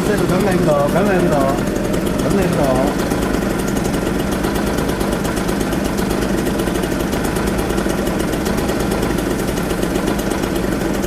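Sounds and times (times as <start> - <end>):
two-stroke moped engine: 0.0 - 11.0.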